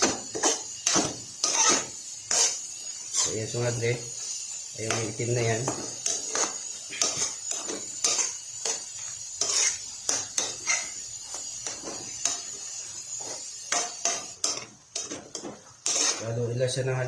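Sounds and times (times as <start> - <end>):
utensil scraping a pan: 0.0 - 16.7.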